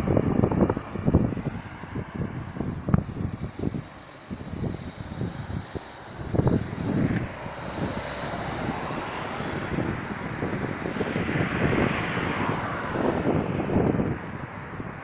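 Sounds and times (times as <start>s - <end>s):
passing vehicle rush: 0.0s - 15.0s
wind thumping on microphone: 0.0s - 15.0s.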